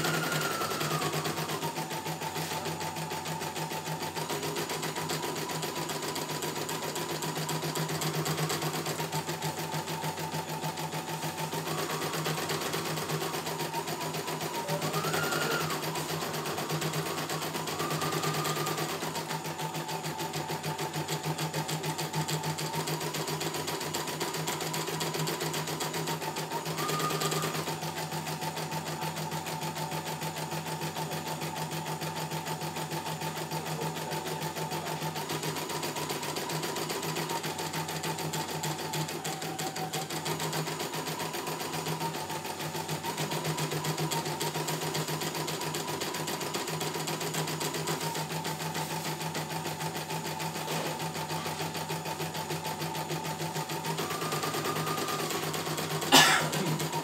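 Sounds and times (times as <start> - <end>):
embroidery machine stitching: 0.0 - 57.0.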